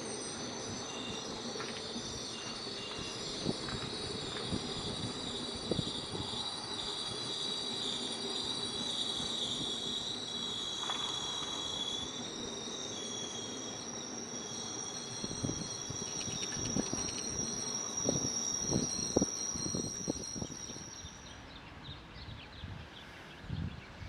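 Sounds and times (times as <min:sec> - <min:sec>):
insects droning: 0:00.0 - 0:22.2
train rumbling on rails: 0:00.0 - 0:24.0.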